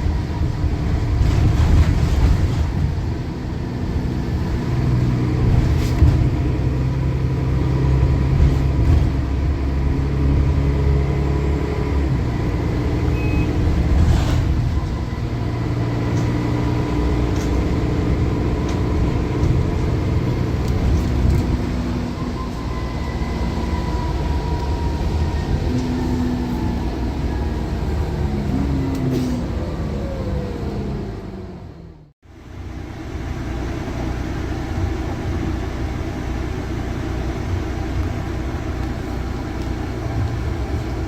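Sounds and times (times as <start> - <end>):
bus diesel engine running: 0.0 - 41.0.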